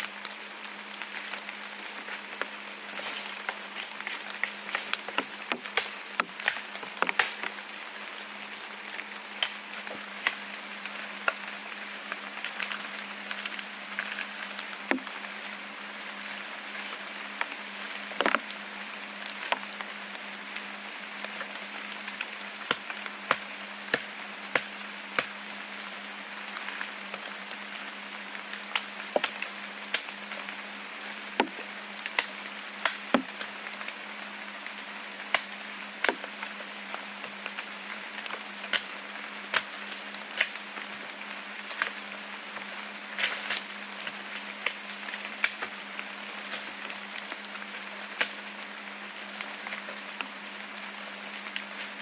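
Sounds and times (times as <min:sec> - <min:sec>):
low steady hum: 0:00.0 - 0:52.0
steady hiss: 0:00.0 - 0:52.0.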